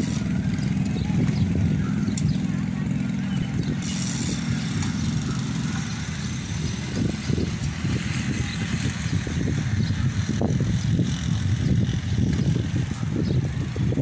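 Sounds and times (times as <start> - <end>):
small motorcycle engine pulling away: 0.0 - 14.0.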